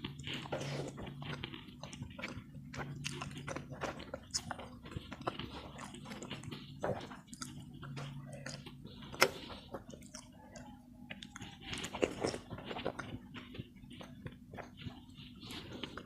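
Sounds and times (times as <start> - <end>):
close chewing and mouth sounds: 0.0 - 16.0.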